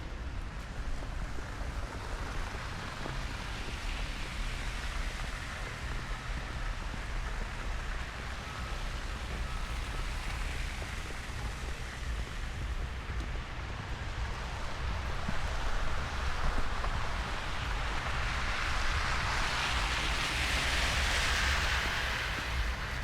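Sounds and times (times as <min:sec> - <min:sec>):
even hiss of wet streets: 0:00.0 - 0:23.0
low traffic rumble: 0:00.0 - 0:23.0.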